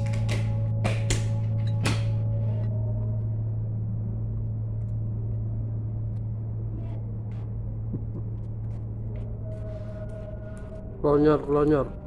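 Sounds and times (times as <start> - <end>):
low hum: 0.0 - 12.0
low rumble: 1.4 - 12.0.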